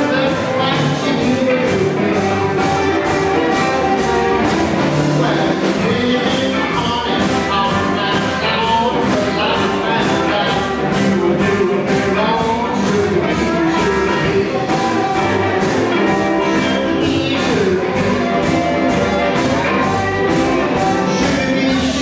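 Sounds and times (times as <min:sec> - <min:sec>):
blues harmonica: 0:00.0 - 0:22.0
drums: 0:00.0 - 0:22.0
electric guitars: 0:00.0 - 0:22.0
upright bass: 0:00.0 - 0:22.0.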